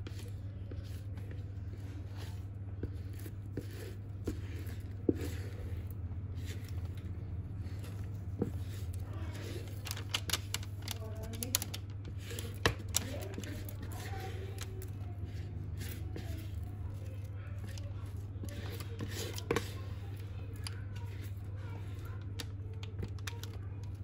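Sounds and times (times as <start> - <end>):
parchment paper crinkling: 0.0 - 24.0.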